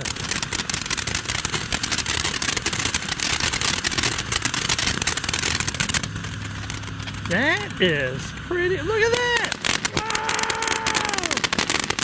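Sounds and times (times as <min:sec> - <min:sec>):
firework crackling and hissing: 0:00.0 - 0:12.0.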